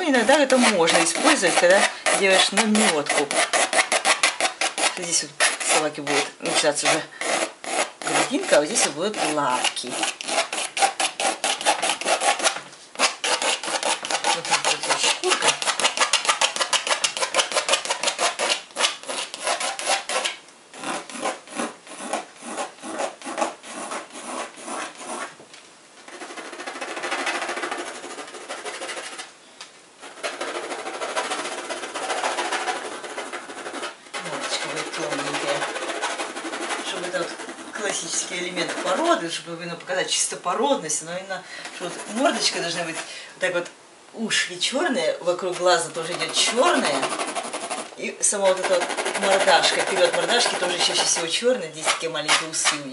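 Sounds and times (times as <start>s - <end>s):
pencil scratching on canvas: 0.0s - 25.3s, 26.1s - 29.3s, 30.0s - 39.6s, 41.6s - 43.1s, 45.4s - 52.9s.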